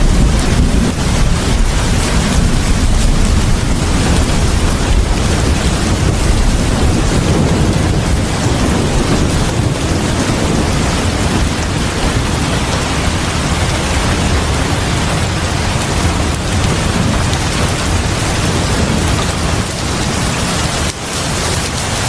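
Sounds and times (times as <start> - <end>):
heavy rain pouring on porch: 0.0 - 22.0.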